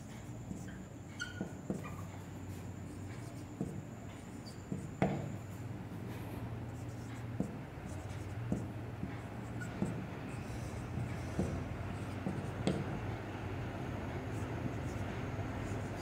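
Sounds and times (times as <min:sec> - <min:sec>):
marker pen on whiteboard: 0:00.0 - 0:16.0.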